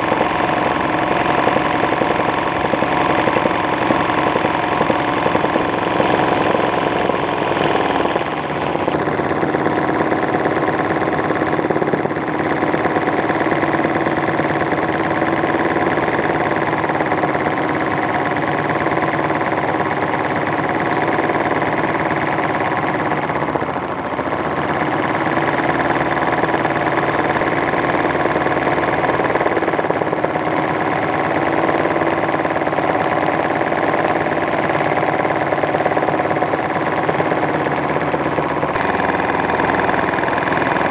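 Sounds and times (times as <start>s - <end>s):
sewing machine running fast: 0.0s - 40.9s.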